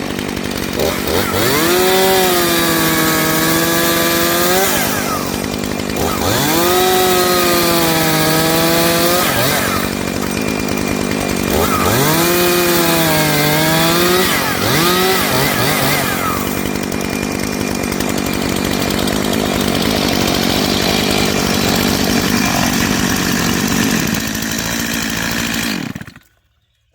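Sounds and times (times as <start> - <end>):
chainsaw revving: 0.0 - 26.5.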